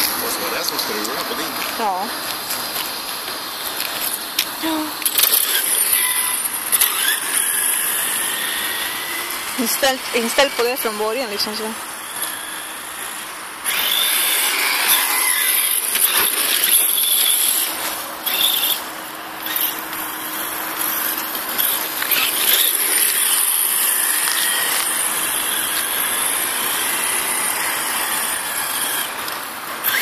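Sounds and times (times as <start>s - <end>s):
rc truck motor and gear whine: 0.0s - 30.0s.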